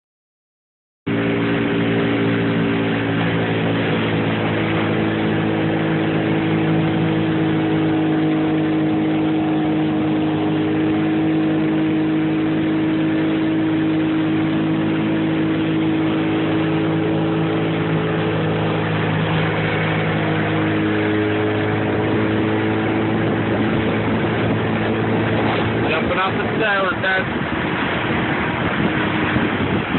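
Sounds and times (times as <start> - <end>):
boat engine humming: 1.1 - 29.9.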